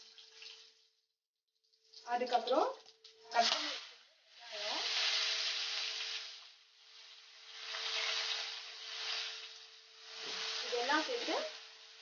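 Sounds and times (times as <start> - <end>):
onions sizzling in hot oil: 1.8 - 12.0.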